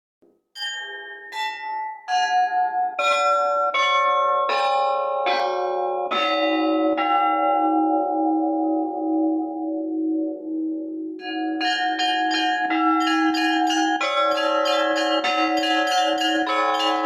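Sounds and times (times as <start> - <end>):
church bells ringing: 0.6 - 17.0.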